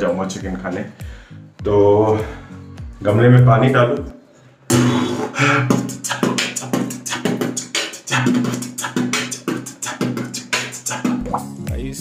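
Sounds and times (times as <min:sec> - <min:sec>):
music with percussive beat: 0:00.4 - 0:04.9, 0:05.7 - 0:12.0.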